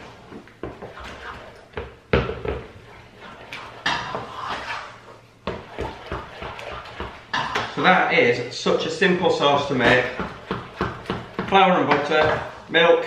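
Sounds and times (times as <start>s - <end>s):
spoon stirring thick sauce: 0.0s - 7.8s, 9.5s - 12.7s.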